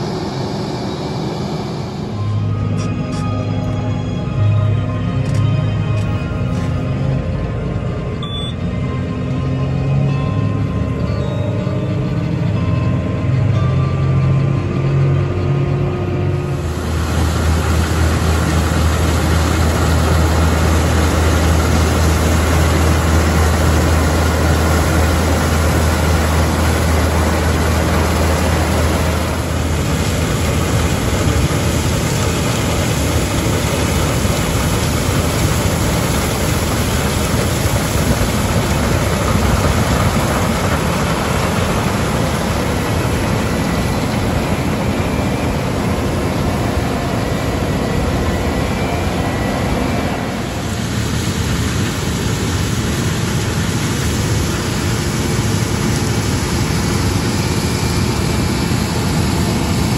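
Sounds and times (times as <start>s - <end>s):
combine harvester engine and threshing: 0.0s - 59.9s
combine harvester low hum: 0.0s - 59.9s.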